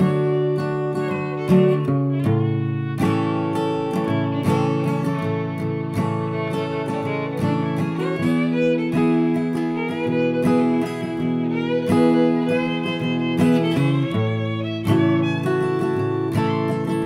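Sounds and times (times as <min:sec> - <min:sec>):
fiddle music: 0:00.0 - 0:17.0
strummed acoustic guitar: 0:00.0 - 0:17.0.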